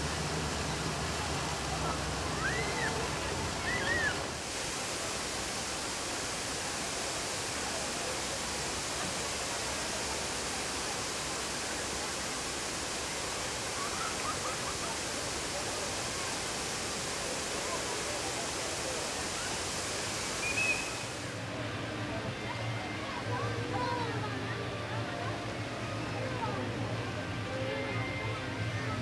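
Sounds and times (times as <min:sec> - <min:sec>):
fountain water splashing: 0:00.0 - 0:29.0
faint voices of people: 0:00.6 - 0:05.4, 0:06.7 - 0:29.0.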